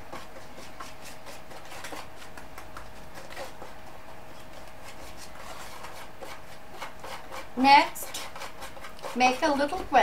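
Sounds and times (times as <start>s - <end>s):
whisk scraping glass bowl: 0.0s - 10.0s.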